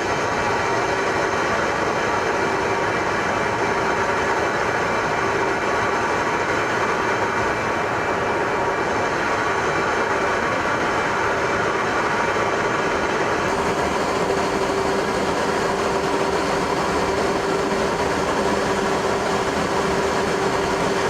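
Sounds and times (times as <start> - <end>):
jet engine running: 0.0 - 21.0.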